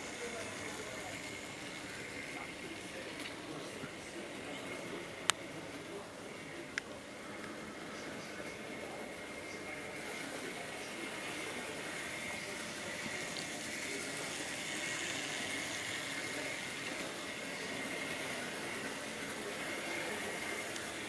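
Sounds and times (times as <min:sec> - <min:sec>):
model railcar motors whining: 0:00.0 - 0:21.0.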